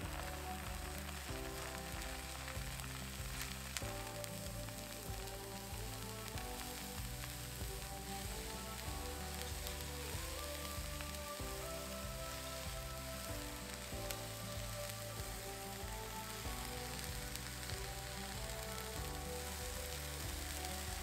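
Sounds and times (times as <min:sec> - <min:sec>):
background music with held notes: 0:00.0 - 0:21.0
food sizzling in frying pan: 0:00.0 - 0:21.0.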